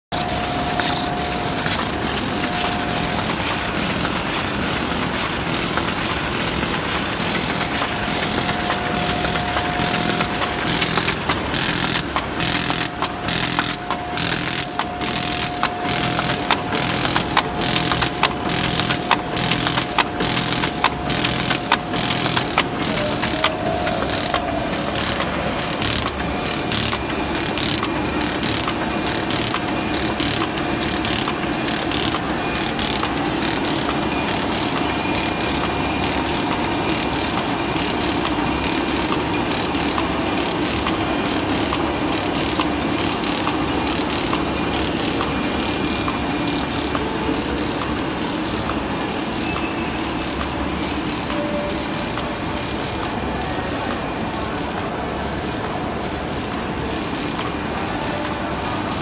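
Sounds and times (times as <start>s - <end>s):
machine belts and rollers rattling: 0.1s - 59.0s
regular machine clacking: 0.1s - 59.0s.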